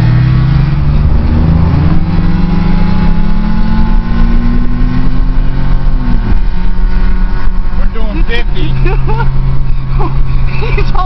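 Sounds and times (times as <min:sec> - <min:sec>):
car engine accelerating: 0:00.0 - 0:11.0
heavy road rumble: 0:00.0 - 0:11.0.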